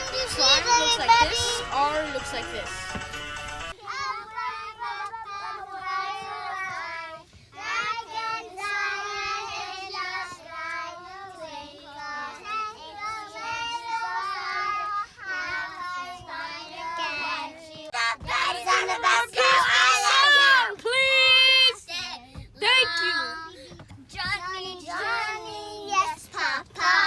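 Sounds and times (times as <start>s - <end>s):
child singing: 0.0s - 1.9s, 3.8s - 20.8s, 21.7s - 27.0s.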